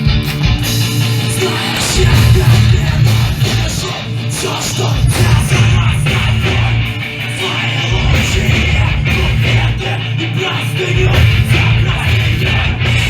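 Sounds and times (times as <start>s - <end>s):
electric guitars: 0.0s - 13.0s
live punk band playing loud: 0.0s - 13.0s.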